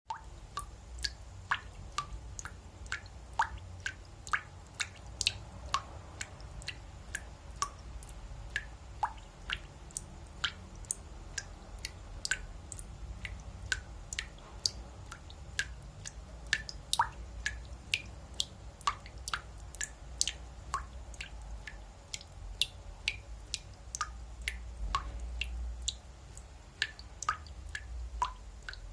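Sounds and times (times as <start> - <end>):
faucet dripping: 0.1 - 28.9.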